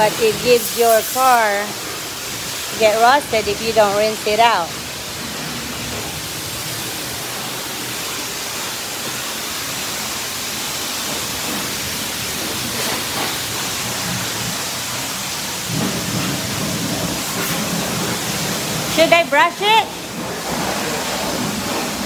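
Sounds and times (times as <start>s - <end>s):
pressure washer spraying car: 0.0s - 22.0s.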